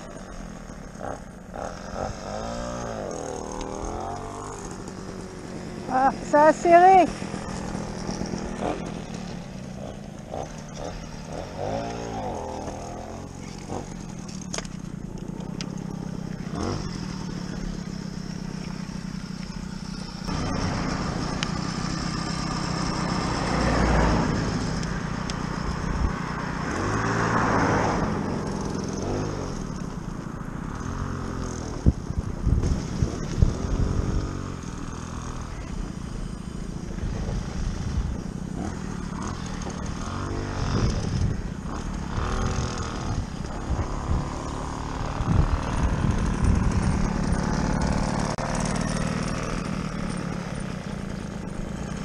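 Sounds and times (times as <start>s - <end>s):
moped engines revving: 0.0s - 52.0s.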